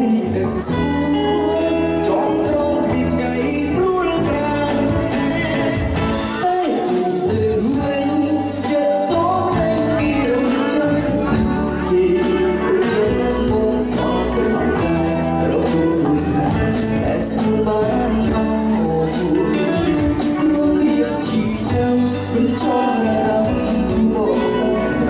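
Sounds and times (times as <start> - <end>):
live pop band music: 0.0 - 25.0.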